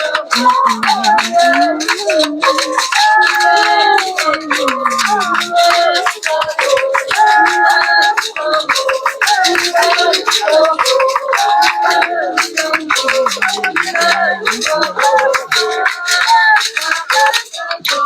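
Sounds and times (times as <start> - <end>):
shaken rattle: 0.0 - 18.0
voices singing in harmony: 0.0 - 18.0.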